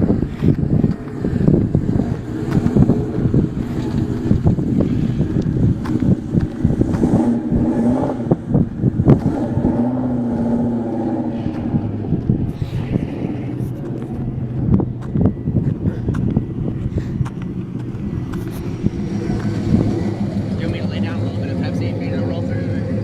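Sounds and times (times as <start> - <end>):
wind noise: 0.0 - 22.3
car engine running: 0.0 - 23.0.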